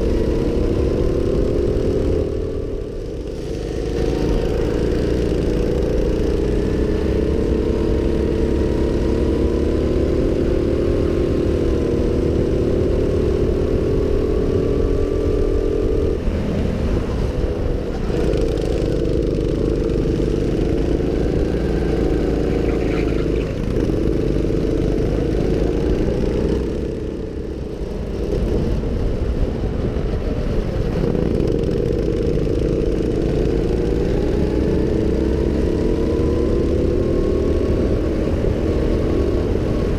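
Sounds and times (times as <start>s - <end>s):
go-kart engine running hard: 0.0s - 39.9s
wind rumbling on microphone: 0.0s - 39.9s.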